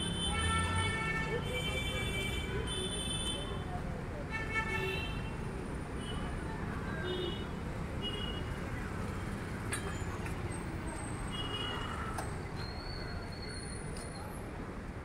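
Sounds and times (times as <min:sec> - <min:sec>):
rumble of passing vehicles: 0:00.0 - 0:04.4, 0:05.1 - 0:15.0.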